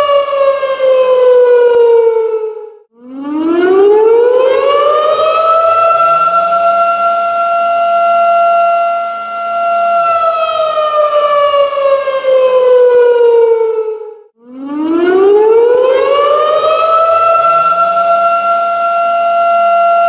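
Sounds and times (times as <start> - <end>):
warning siren wailing: 0.0 - 20.0.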